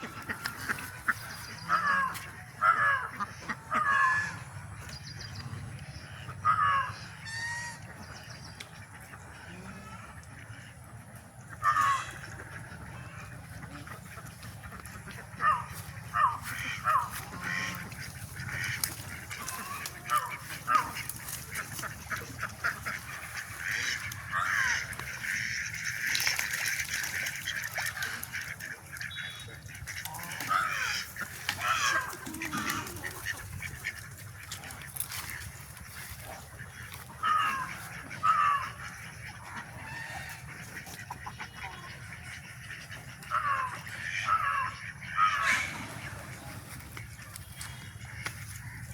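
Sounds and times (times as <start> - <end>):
chickens calling: 0.0 - 48.9.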